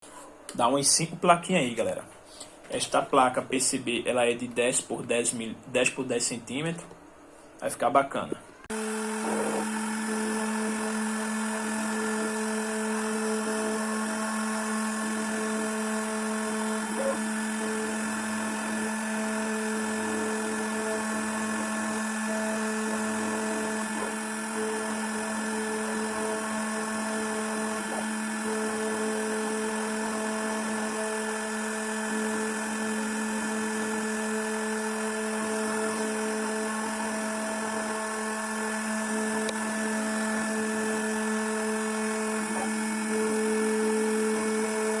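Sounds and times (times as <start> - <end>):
router spindle whine: 8.7 - 45.0.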